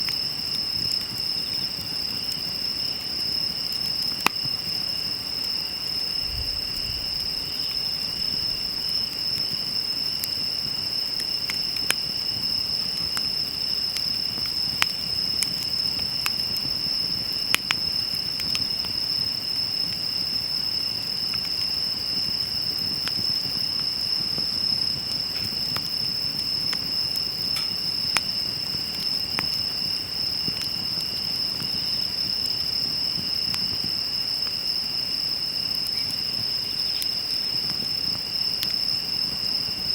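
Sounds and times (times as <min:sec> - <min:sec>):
insects chirring: 0:00.0 - 0:39.9
wood fire crackling and popping: 0:00.0 - 0:39.9.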